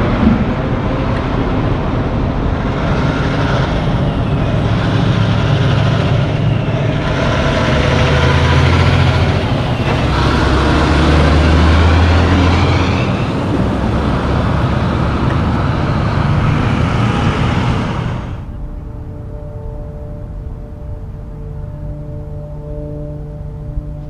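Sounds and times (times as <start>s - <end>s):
diesel truck passing: 0.0s - 21.4s
road traffic: 0.0s - 24.0s.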